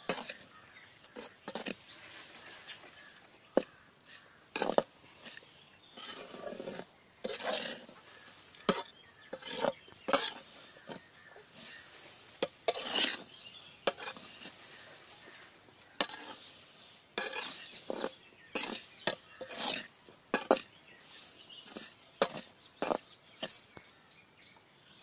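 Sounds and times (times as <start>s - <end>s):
metal spatula scraping pan: 0.0s - 2.0s, 2.6s - 23.7s.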